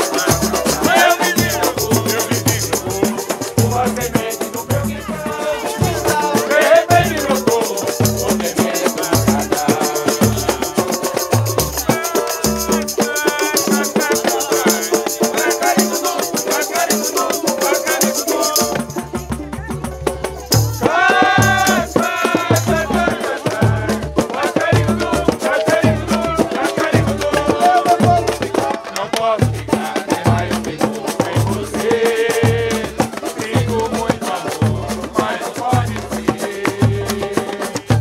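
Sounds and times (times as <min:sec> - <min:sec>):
deep hand drum beat: 0:00.0 - 0:38.0
tambourines jingling: 0:00.0 - 0:38.0
voices singing: 0:00.0 - 0:38.0.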